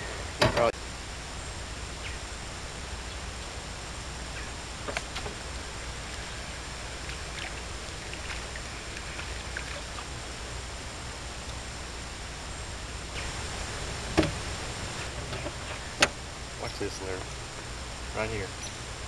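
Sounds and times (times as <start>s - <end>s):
open-air hiss and low rumble: 0.0s - 19.0s.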